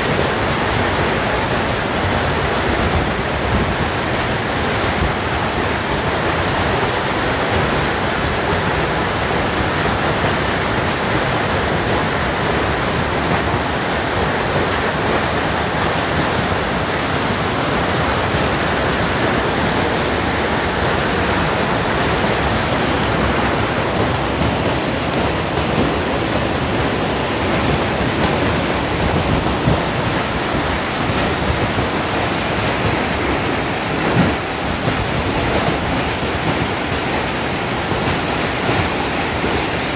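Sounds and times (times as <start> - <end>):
hail and rain pelting down: 0.0 - 39.9.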